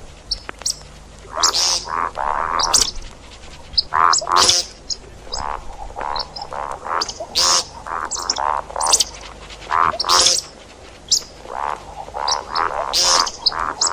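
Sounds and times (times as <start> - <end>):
grating croak-like bird calls: 0.0 - 13.9
high chirps: 0.3 - 13.9.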